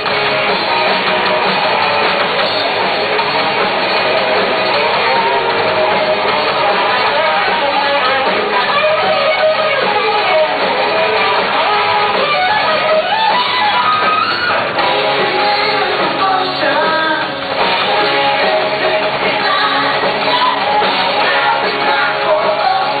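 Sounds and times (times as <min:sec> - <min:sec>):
electric guitar strummed and picked: 0:00.0 - 0:23.0
rock band playing: 0:00.0 - 0:23.0.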